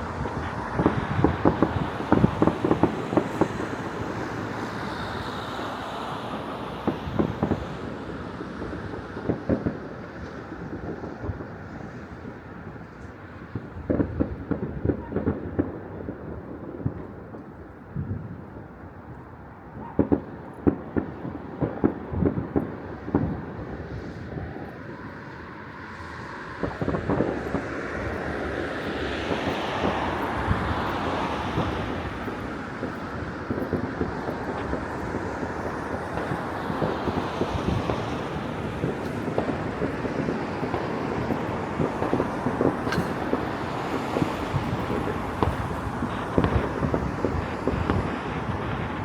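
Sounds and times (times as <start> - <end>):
dense fireworks rumble: 0.0 - 49.0
fireworks bangs: 0.0 - 49.0.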